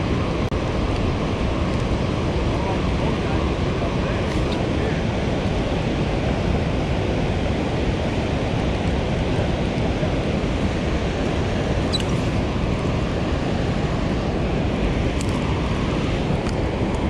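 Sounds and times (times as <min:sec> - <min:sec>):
water rushing through spillway: 0:00.0 - 0:17.0.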